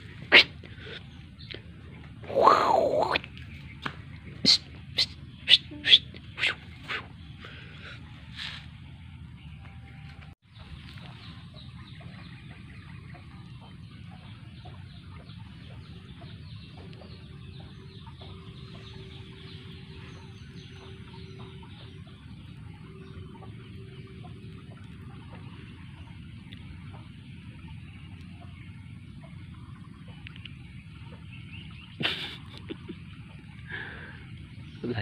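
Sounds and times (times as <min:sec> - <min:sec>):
steady low rumble: 0:00.0 - 0:34.9
birds calling: 0:00.0 - 0:35.0
faint steady hum: 0:00.0 - 0:35.0.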